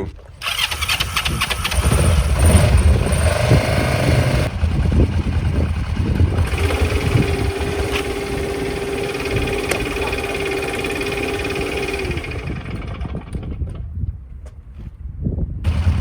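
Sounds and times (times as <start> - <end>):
motorcycle engine running: 0.3 - 14.2, 15.6 - 16.0.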